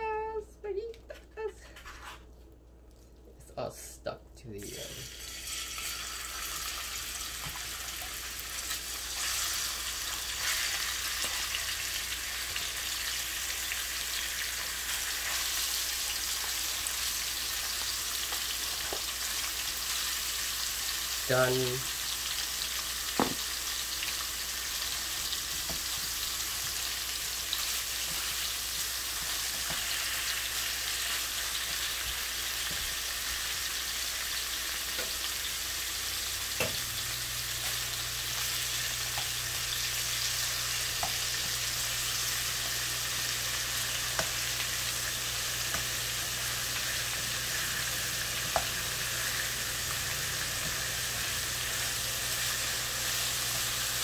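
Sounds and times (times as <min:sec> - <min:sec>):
beef sizzling in frying pan: 0:04.7 - 0:54.0.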